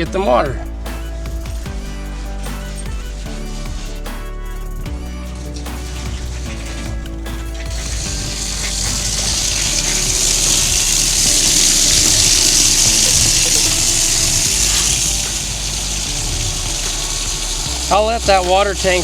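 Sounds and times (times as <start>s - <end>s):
water rushing through hose: 0.0s - 19.0s.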